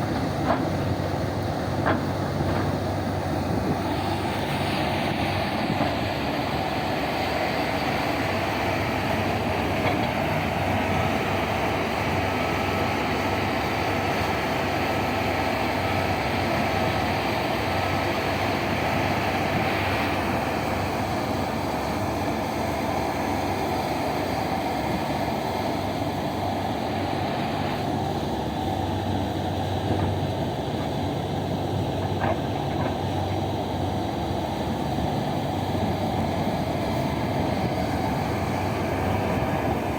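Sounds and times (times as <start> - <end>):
excavator diesel engines droning: 0.0 - 39.9.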